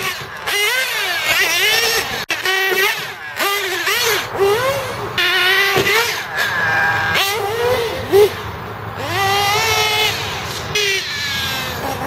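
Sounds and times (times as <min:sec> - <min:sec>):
small engine buzzing at high revs: 0:00.0 - 0:12.0.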